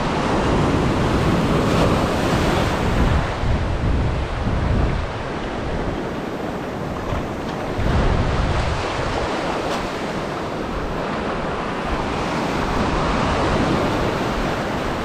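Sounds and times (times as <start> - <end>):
surf washing over sand: 0.0 - 15.0
wind buffeting microphone: 0.0 - 15.0.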